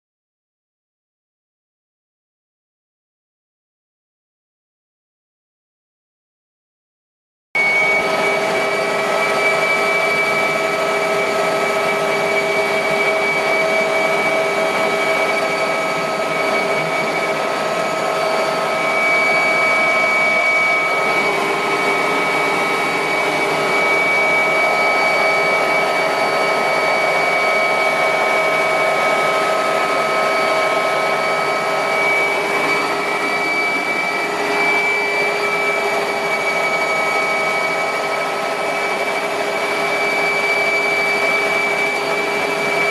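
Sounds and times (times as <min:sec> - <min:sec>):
helicopter engines and rotors: 0:07.6 - 0:42.9.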